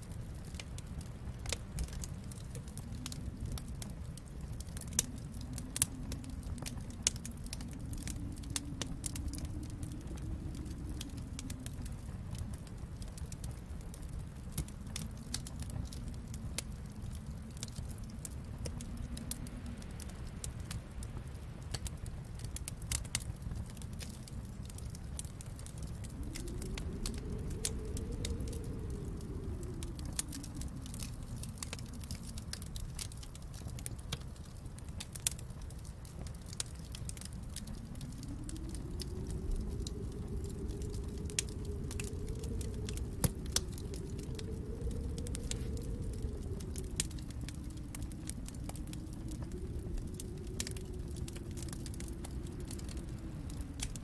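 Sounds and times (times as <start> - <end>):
steady low rumble: 0.0 - 54.0
wood fire crackling: 0.0 - 54.0.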